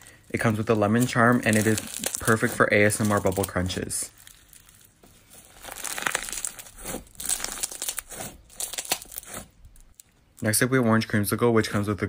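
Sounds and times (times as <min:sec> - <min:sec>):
slime crackling bubble crunches: 0:00.0 - 0:10.5.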